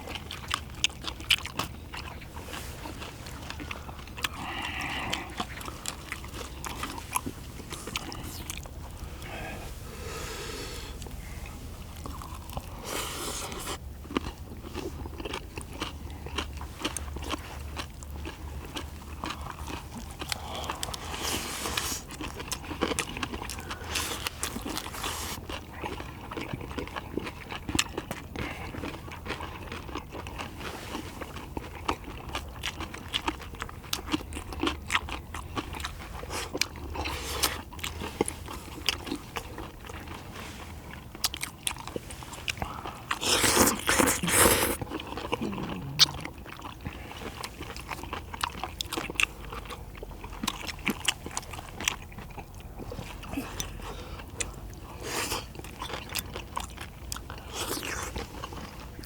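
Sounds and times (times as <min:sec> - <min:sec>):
chewing and biting food: 0:00.0 - 0:59.0.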